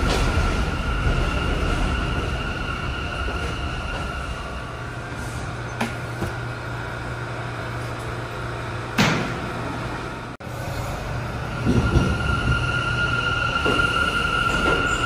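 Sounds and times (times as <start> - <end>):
subway train whine and rumble: 0.0 - 15.0.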